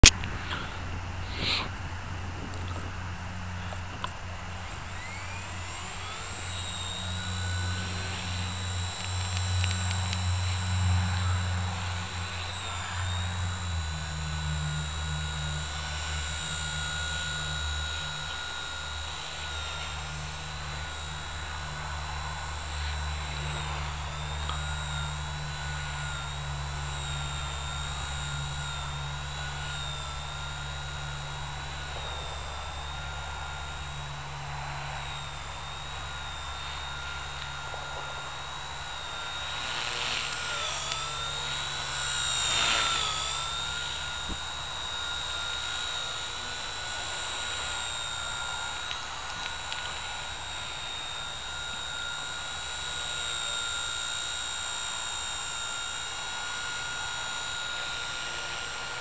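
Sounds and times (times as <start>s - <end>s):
rc helicopter rotor whine: 0.0s - 59.0s.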